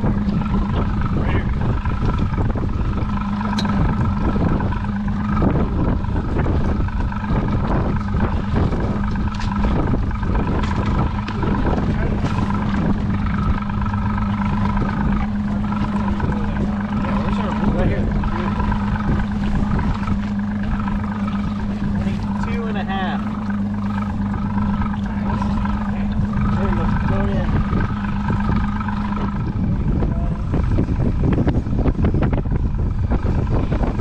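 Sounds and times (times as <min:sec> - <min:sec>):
boat motor running: 0:00.0 - 0:34.0
wind buffeting microphone: 0:00.0 - 0:34.0.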